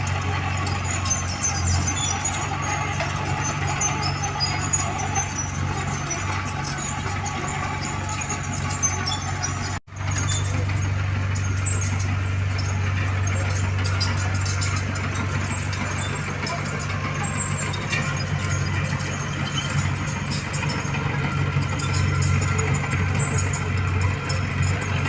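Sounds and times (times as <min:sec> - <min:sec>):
diesel engine running: 0:00.0 - 0:25.0
faint high squeaks: 0:00.0 - 0:25.0.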